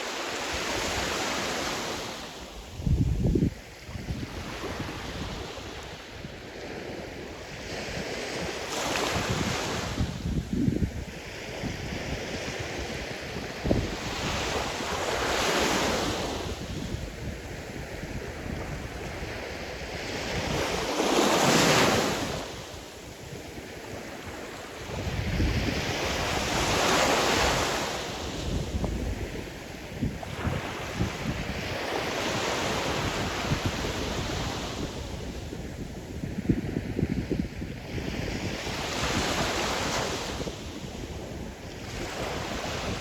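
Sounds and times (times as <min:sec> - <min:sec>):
waves breaking and washing in: 0:00.0 - 0:43.0
wind buffeting microphone: 0:02.7 - 0:43.0.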